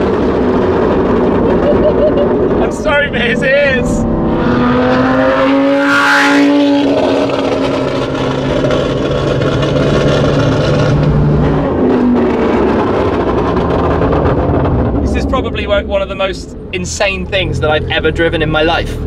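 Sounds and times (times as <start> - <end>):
loud sports car engine: 0.0 - 19.0.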